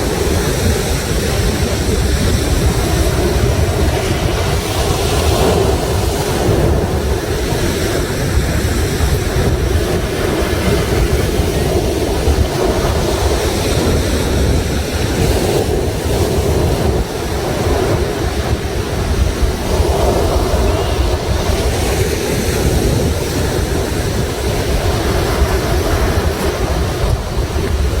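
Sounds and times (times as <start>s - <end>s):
sea surf washing ashore: 0.0s - 28.0s
wind rumbling on microphone: 0.0s - 28.0s.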